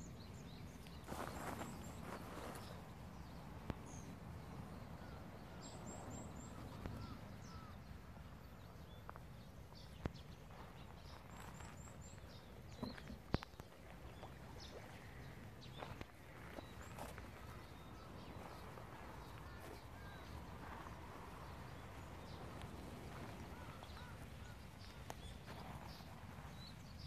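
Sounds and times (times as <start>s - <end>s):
low outdoor rumble: 0.0s - 27.0s
small birds chirping: 0.0s - 27.0s.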